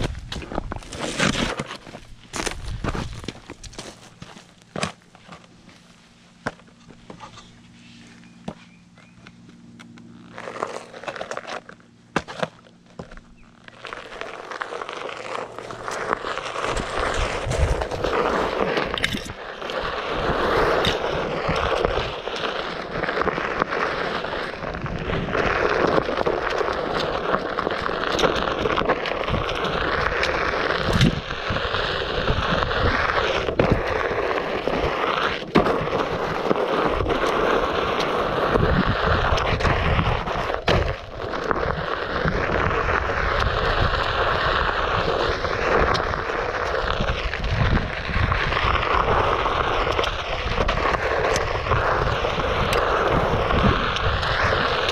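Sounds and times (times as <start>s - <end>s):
tyre crunching over trail: 0.0s - 54.9s.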